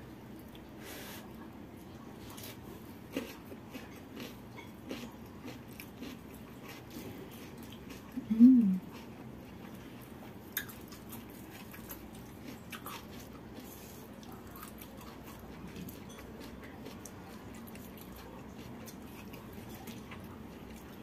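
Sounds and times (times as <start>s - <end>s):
room hum: 0.0s - 21.0s
quiet chewing: 0.1s - 21.0s.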